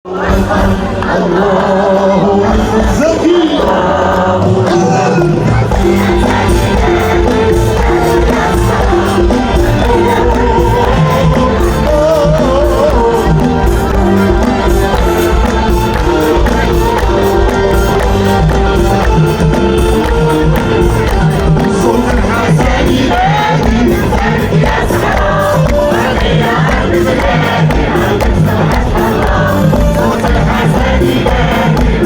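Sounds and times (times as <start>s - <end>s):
song with drums and percussion: 0.1s - 32.0s.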